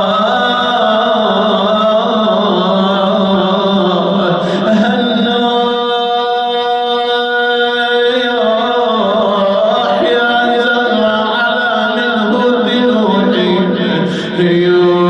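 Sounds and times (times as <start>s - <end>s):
man chanting unaccompanied: 0.0s - 15.0s.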